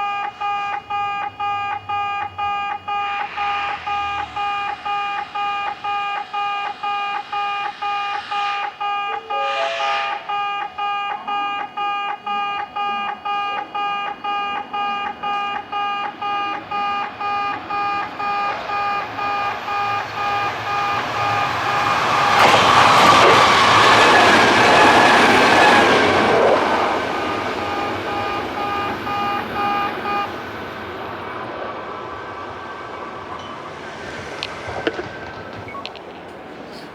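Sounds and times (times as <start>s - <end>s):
level crossing electronic alarm: 0.0s - 36.9s
train passing: 0.0s - 36.9s.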